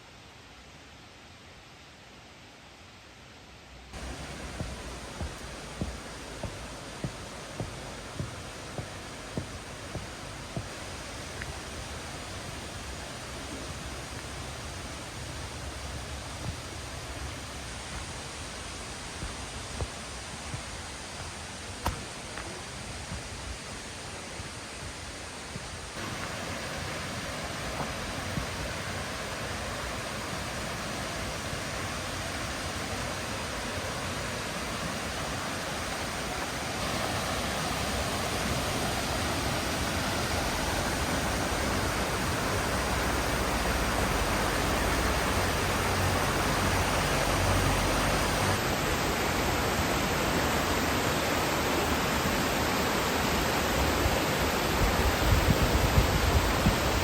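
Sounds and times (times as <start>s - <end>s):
waterfall rushing: 3.9s - 57.0s.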